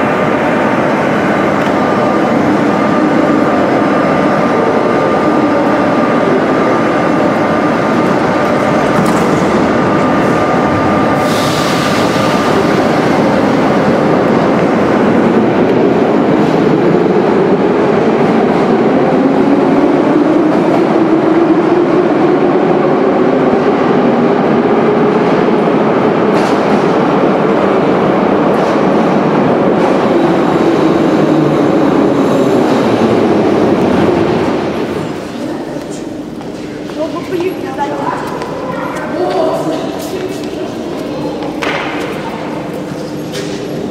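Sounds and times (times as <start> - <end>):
metro train rumbling: 0.0 - 43.9.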